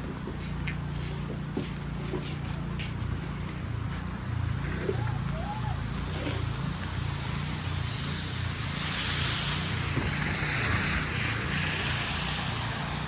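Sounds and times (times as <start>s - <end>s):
low engine rumble of traffic: 0.0s - 13.0s
tyres hissing on wet road: 0.0s - 13.0s.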